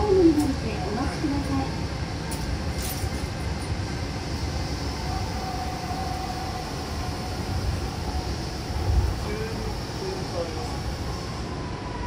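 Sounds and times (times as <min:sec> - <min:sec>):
train rumbling with rushing air: 0:00.0 - 0:12.0.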